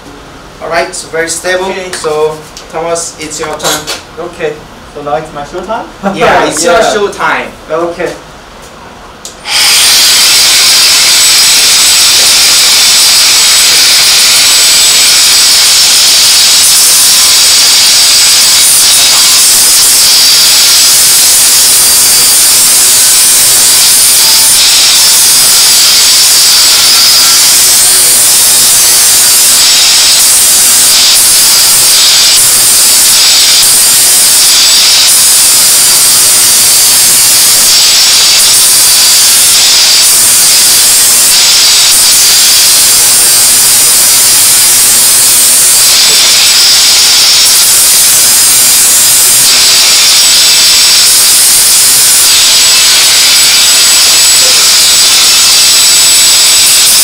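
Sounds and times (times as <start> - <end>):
angle grinder grinding: 9.3 - 57.0.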